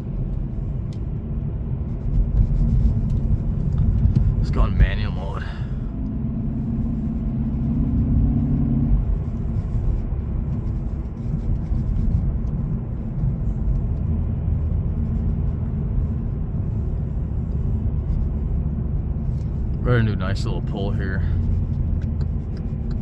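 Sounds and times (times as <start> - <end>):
car engine running: 0.0 - 23.0
low road rumble: 0.0 - 23.0.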